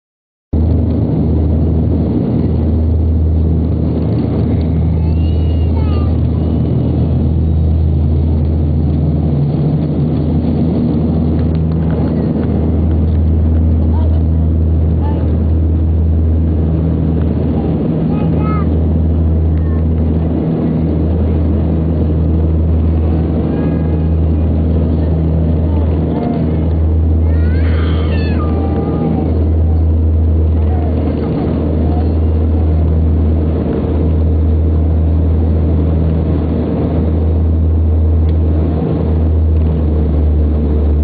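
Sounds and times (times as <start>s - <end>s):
aircraft engines droning in cabin: 0.6s - 41.0s.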